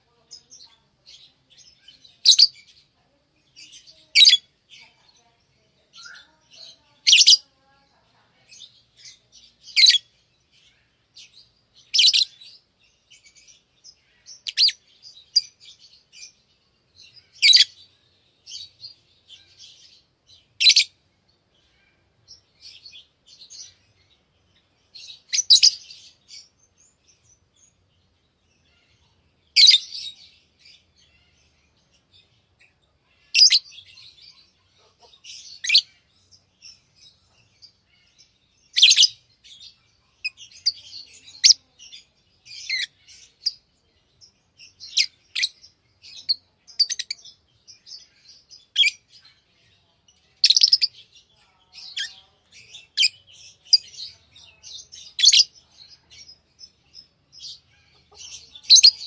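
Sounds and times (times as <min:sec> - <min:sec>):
lovebirds chirping: 0:00.0 - 0:59.0
quiet bird chatter: 0:00.0 - 0:59.0.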